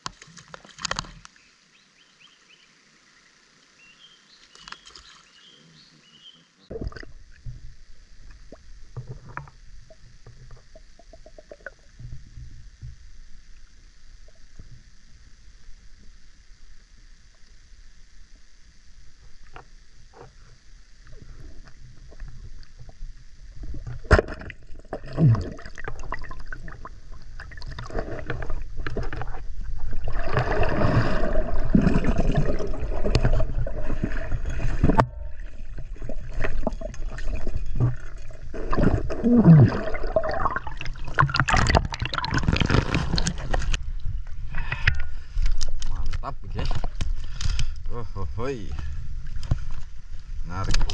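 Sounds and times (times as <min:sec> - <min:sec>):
water sloshing and gurgling: 0:00.0 - 0:01.3, 0:06.7 - 0:16.2, 0:19.1 - 0:50.9.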